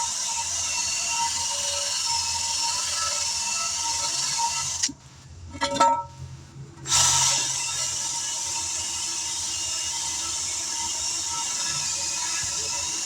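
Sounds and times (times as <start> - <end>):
air tool whining: 0.0 - 4.9, 6.9 - 13.0.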